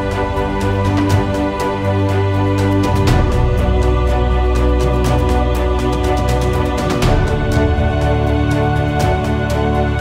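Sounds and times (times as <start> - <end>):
background music with deep bass: 0.0 - 10.0.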